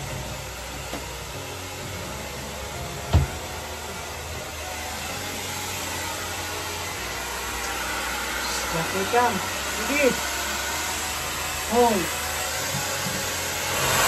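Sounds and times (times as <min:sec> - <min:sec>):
electric blower running: 0:00.0 - 0:14.0.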